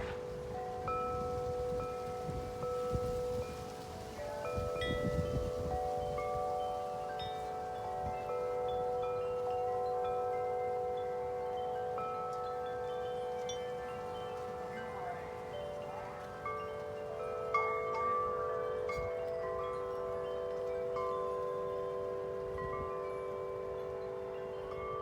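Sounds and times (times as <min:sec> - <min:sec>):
wind chimes ringing: 0:00.0 - 0:25.0
wind gusts on microphone: 0:00.0 - 0:25.0.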